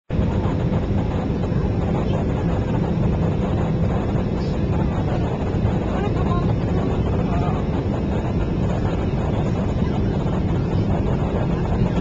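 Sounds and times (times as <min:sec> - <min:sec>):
jet engine and airflow rush: 0:00.1 - 0:12.0.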